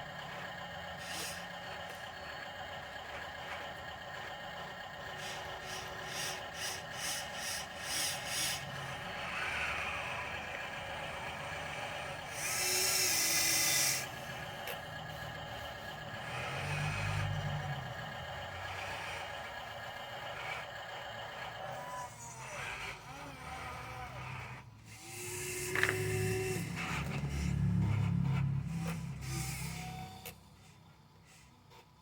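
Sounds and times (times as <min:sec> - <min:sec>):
engine pulses: 0:00.0 - 0:32.0
truck engine running: 0:00.0 - 0:32.0.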